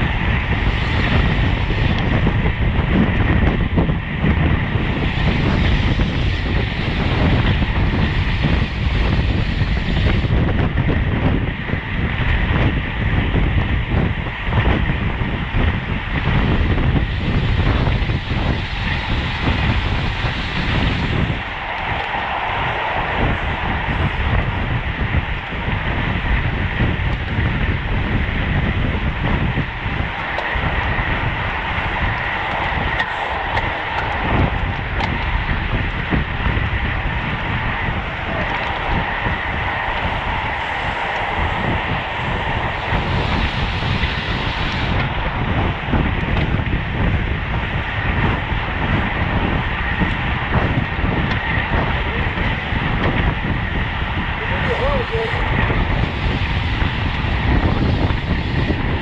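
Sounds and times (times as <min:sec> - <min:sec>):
faint bicycle whine: 0:00.0 - 0:59.0
tyre and road noise: 0:00.0 - 0:59.0
wind buffeting microphone: 0:00.0 - 0:59.0.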